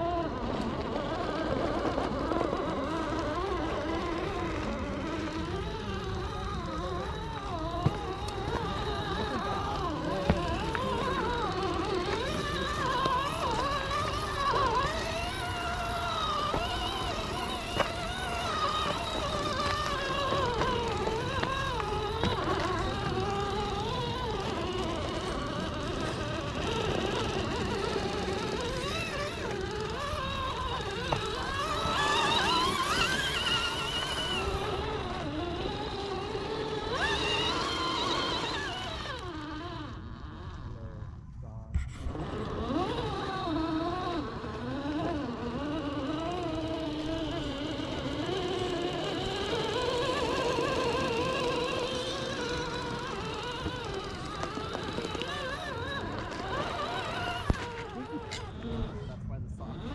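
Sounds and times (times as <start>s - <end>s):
toy car motor whining: 0.0s - 59.9s.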